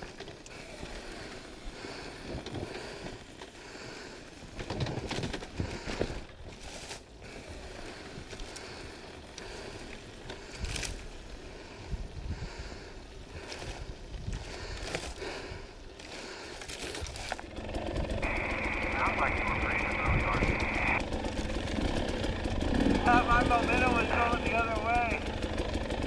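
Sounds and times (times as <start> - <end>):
dirt bike rattling and knocking: 0.0 - 6.7, 7.4 - 26.0
tyres rolling on dirt: 0.0 - 26.0.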